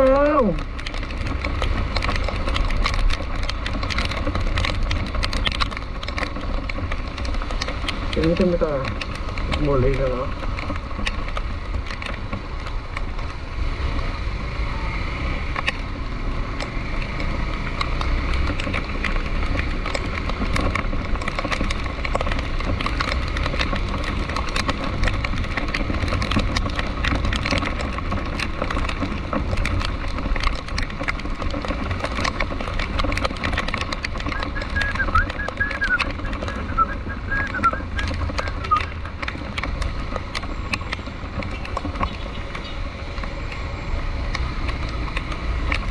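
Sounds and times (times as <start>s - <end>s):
low engine rumble: 0.0s - 45.9s
rain ticks: 0.0s - 45.9s.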